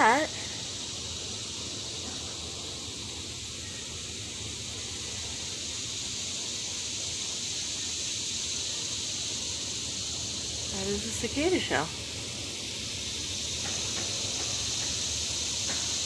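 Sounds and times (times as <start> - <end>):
cicadas chorus: 0.0 - 16.0.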